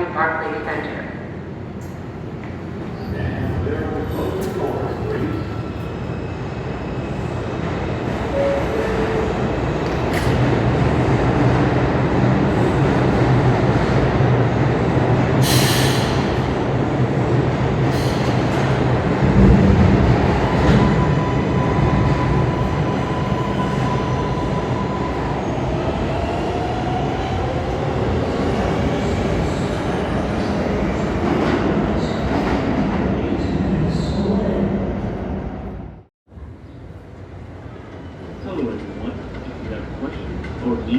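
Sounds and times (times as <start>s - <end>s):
train wheel-on-rail rumble: 1.2s - 40.9s.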